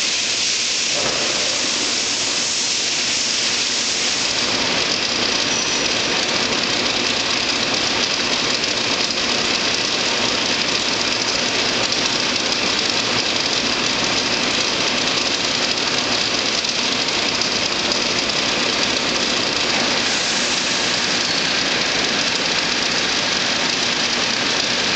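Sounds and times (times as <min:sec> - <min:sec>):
lathe running with hiss: 0:00.0 - 0:24.9.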